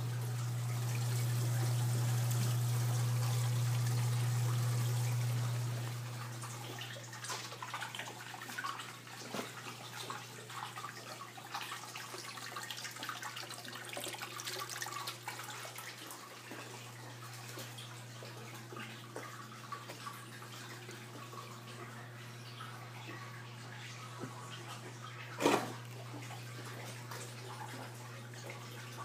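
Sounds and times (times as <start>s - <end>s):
pump humming: 0.0s - 29.0s
water trickling and splashing: 0.0s - 29.0s.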